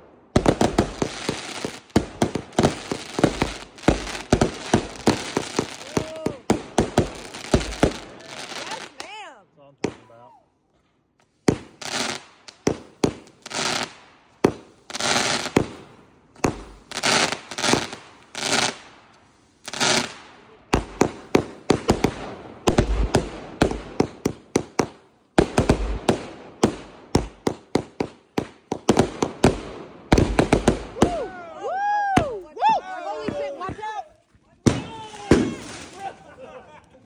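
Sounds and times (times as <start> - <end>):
fireworks sharp bangs: 0.0 - 9.2, 11.4 - 31.3, 34.6 - 36.2
fireworks crackling bursts: 0.0 - 10.2, 11.3 - 31.3, 34.6 - 37.0.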